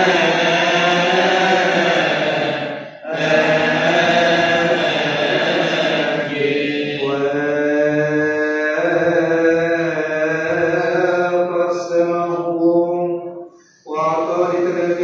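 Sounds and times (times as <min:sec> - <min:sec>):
man singing liturgical chant: 0:00.0 - 0:15.0.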